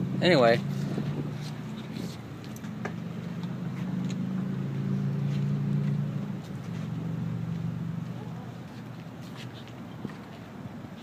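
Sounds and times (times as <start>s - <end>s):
engine low hum: 0.0s - 11.0s.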